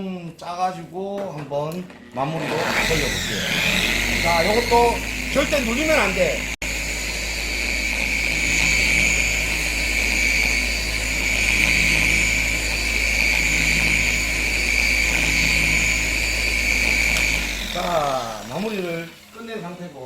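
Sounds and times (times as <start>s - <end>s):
machine polisher motor whine: 2.1s - 20.0s.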